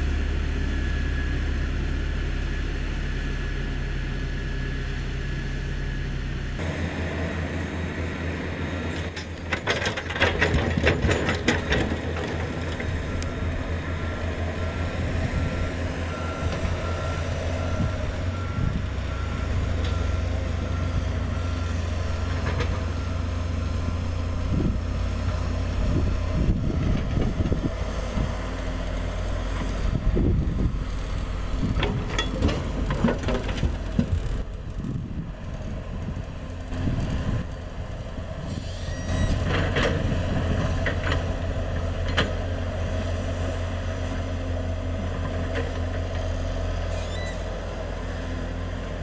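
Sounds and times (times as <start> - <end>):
diesel engine running: 0.0 - 49.0
reversing alarm beeping: 0.2 - 34.5, 38.5 - 47.9.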